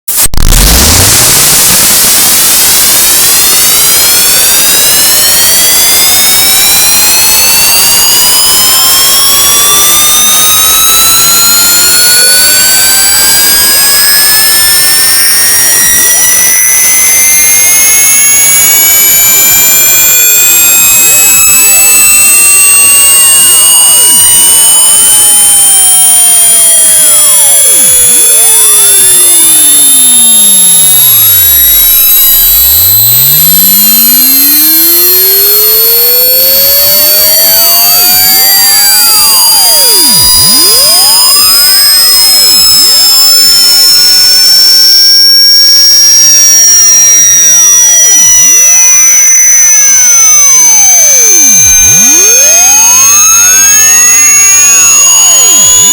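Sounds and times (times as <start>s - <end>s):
distorted electronic whine: 0.0s - 55.9s
whistling tones sweeping: 0.1s - 48.1s.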